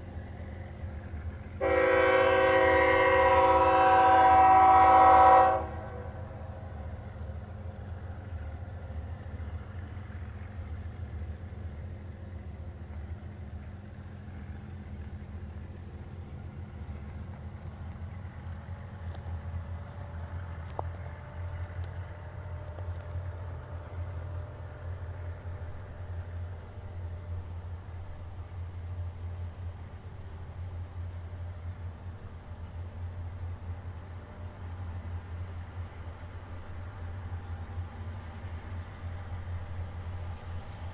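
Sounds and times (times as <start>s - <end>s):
diesel locomotives rumbling: 0.0s - 40.9s
high insect whine: 0.0s - 40.9s
insects chirping in pulses: 0.0s - 40.9s.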